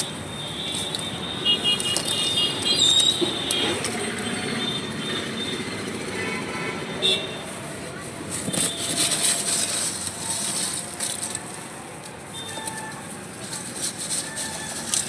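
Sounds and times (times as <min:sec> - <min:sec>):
steady traffic noise: 0:00.0 - 0:15.0.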